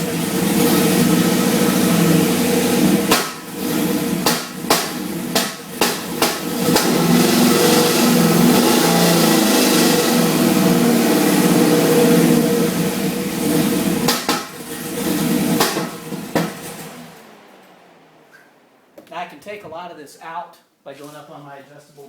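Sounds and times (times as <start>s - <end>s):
car engine idling: 0.0s - 19.6s
exhaust popping: 0.0s - 20.4s.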